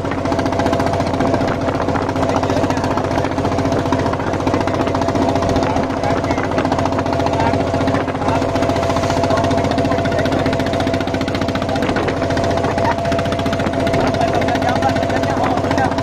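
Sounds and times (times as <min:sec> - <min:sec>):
motorboat engine knocking: 0:00.0 - 0:16.0.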